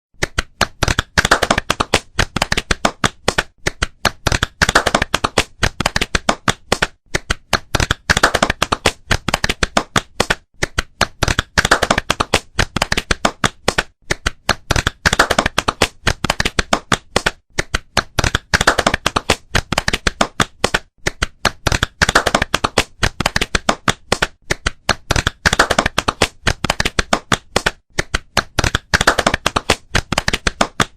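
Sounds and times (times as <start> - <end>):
rhythmic hand-clapping: 0.2 - 30.9.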